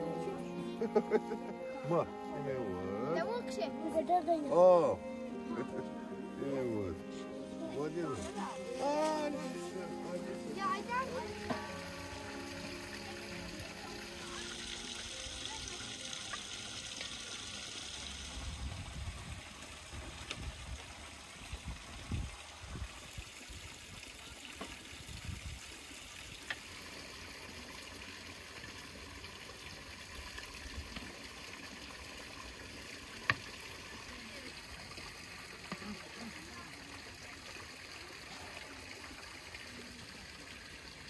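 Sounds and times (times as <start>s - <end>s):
stream running water: 0.0s - 41.0s.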